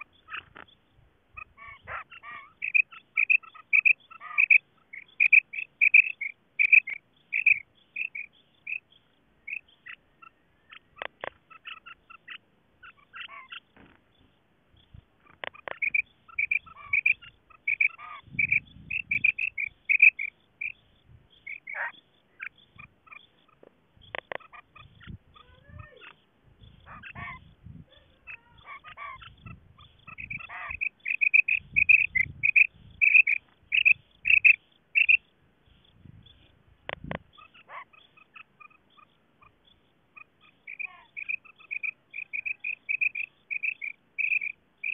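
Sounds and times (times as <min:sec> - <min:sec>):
quail calling: 0:00.0 - 0:14.0, 0:15.2 - 0:44.9.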